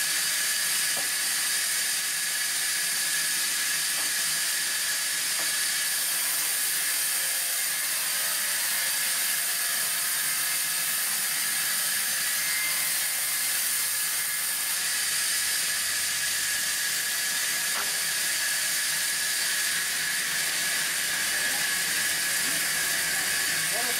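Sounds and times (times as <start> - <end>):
band saw cutting timber: 0.0 - 23.9.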